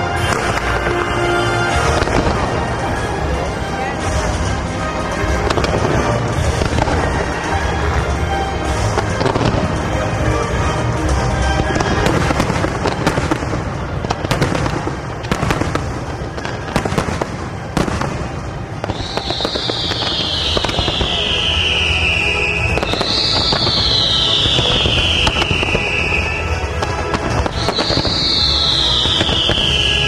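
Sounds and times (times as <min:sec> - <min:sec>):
fireworks cracking and popping: 0:00.0 - 0:30.0
music: 0:00.0 - 0:30.0.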